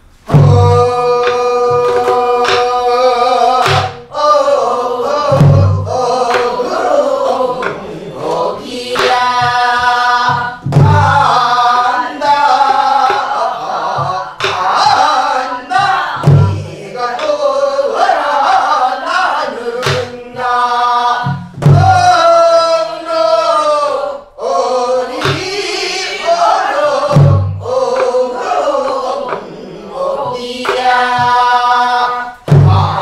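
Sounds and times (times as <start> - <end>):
voices singing folk song: 0.0 - 33.0.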